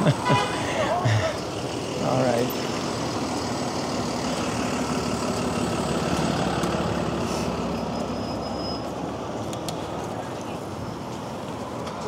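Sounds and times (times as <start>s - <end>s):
bus engine droning: 0.0s - 11.8s.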